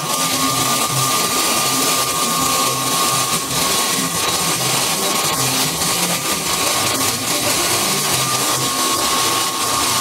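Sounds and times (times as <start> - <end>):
woodworking power tool running: 0.0 - 10.0.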